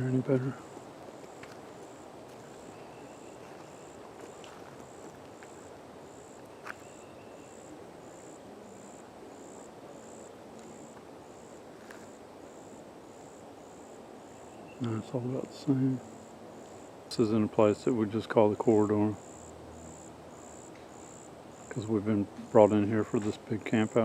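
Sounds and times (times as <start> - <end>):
faint outdoor hush: 0.0 - 24.0
insect chirping: 0.0 - 24.0.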